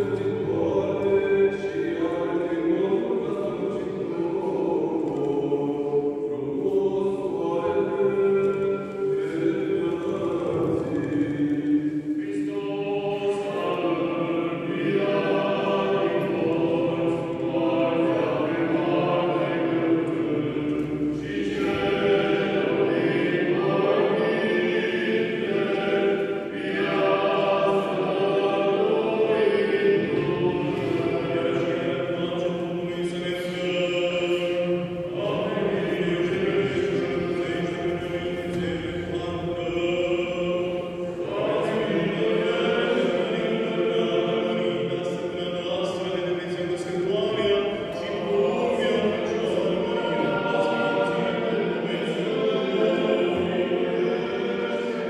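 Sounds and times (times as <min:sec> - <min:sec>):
choir chanting: 0:00.0 - 0:55.0.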